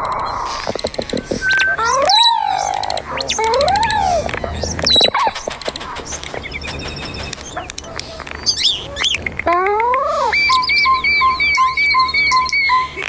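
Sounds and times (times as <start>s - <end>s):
bird-like chirps and clicks: 0.0s - 13.0s
whistled rising and falling call: 0.0s - 13.0s
short piping notes: 0.1s - 13.0s.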